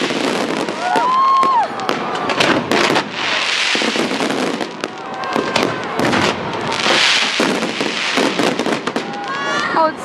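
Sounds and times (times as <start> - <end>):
fireworks crackling and banging: 0.0 - 10.0.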